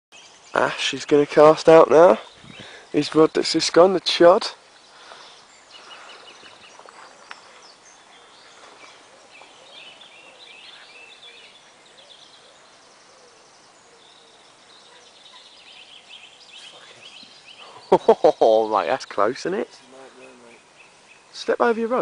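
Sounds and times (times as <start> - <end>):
birds chirping and trilling: 0.1 - 22.0
faint outdoor hiss: 0.1 - 22.0.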